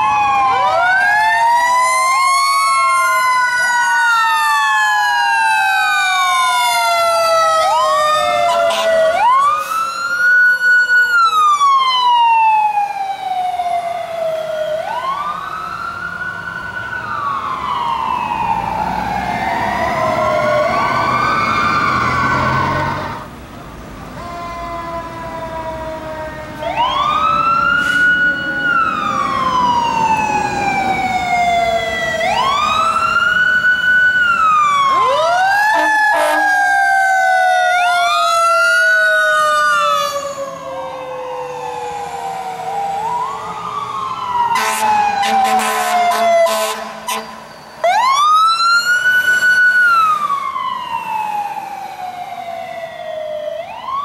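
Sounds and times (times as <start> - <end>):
sirens wailing: 0.0 - 54.0.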